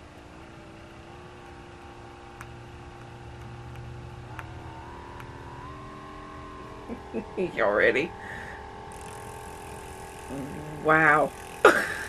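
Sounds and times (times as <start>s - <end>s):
massage gun motor humming: 0.0s - 12.0s.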